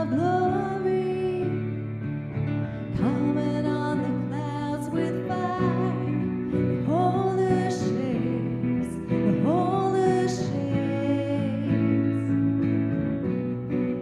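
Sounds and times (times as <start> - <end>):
person singing: 0.0 - 1.9, 2.8 - 12.7
acoustic guitar: 0.0 - 14.0.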